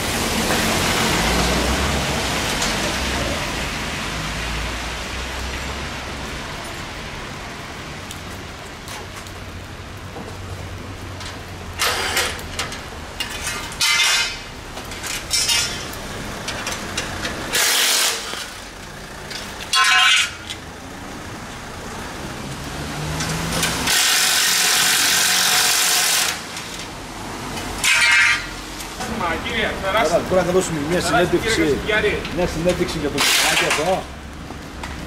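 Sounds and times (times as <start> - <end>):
rain falling on street: 0.0 - 35.0.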